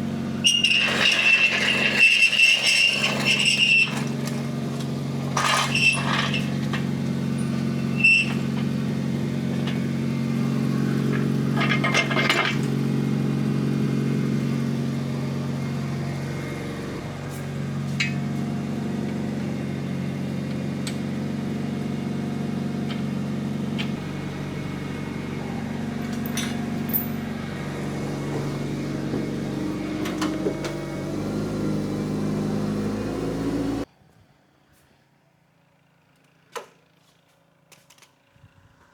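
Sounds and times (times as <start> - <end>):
forklift engine idling: 0.0 - 33.9.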